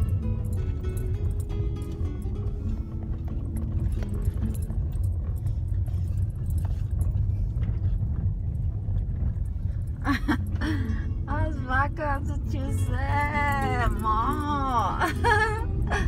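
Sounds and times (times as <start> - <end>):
car rumbling on dirt road: 0.0 - 16.0.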